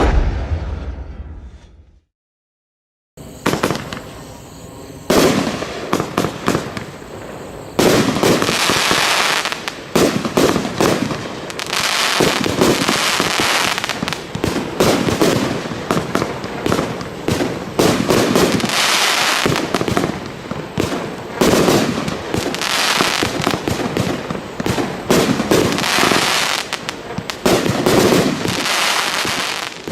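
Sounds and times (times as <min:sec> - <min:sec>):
firework crackling: 0:03.3 - 0:29.9
firework shots and bursts: 0:03.4 - 0:04.1, 0:05.1 - 0:29.9.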